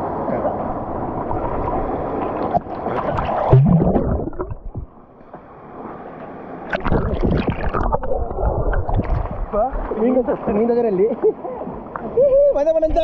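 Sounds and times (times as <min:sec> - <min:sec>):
water splashing and rushing: 0:00.0 - 0:13.0.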